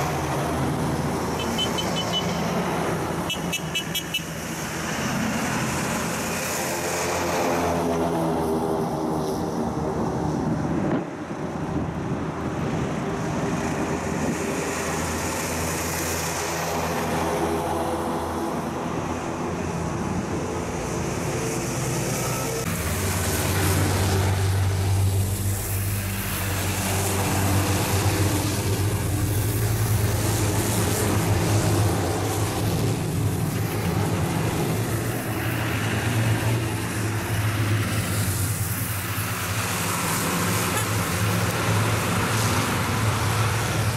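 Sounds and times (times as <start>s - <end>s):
heavy engines humming: 0.0s - 43.9s
road and tyre noise: 0.0s - 43.9s.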